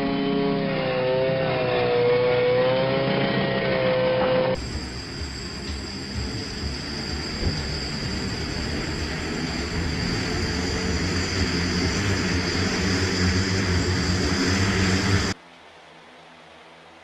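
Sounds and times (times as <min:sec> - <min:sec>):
aircraft engine roaring: 0:00.0 - 0:15.4
high engine whine: 0:00.0 - 0:17.0.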